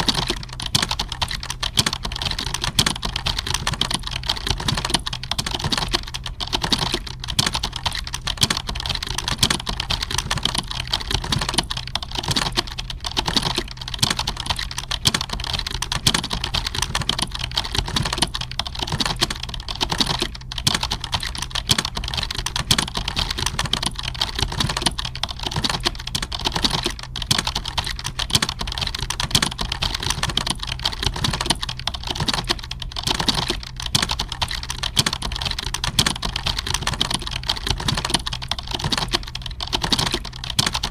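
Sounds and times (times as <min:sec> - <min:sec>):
computer keyboard typing: 0:00.0 - 0:40.9.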